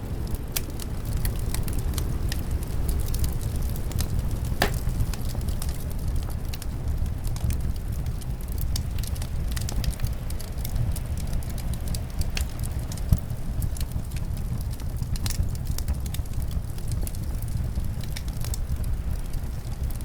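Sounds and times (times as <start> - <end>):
low rumble of wind: 0.0 - 20.0
fireplace crackling and popping: 0.1 - 20.0.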